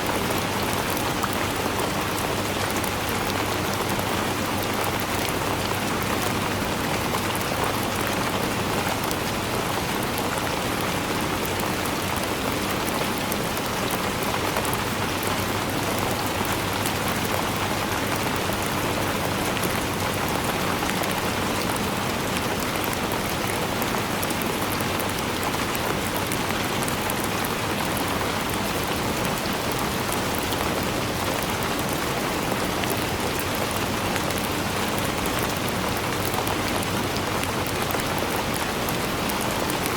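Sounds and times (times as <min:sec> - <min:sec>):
raindrops pattering on a surface: 0:00.0 - 0:39.9.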